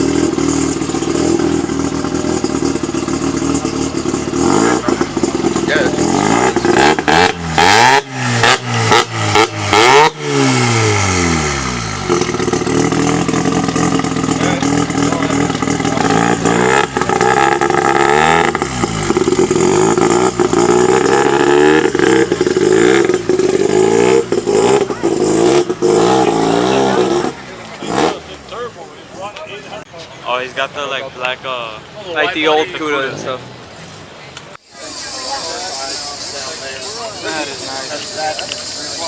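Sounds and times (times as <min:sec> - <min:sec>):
loud car engine revving: 0:00.0 - 0:28.8, 0:34.0 - 0:39.0.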